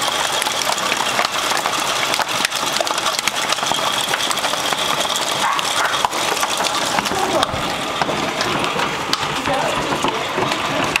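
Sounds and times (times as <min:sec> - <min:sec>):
hail clattering on ground: 0:00.0 - 0:11.0.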